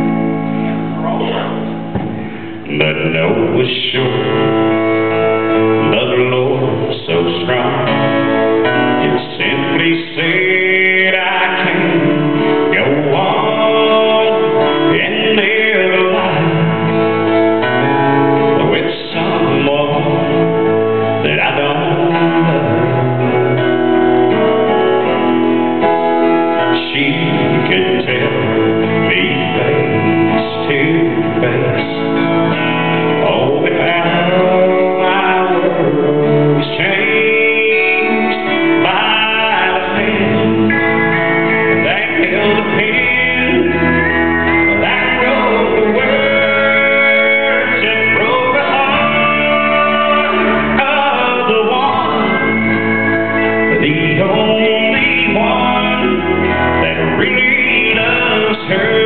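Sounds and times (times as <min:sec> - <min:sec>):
man singing: 0:00.0 - 0:25.4, 0:26.2 - 0:59.0
acoustic guitar: 0:00.0 - 0:59.0.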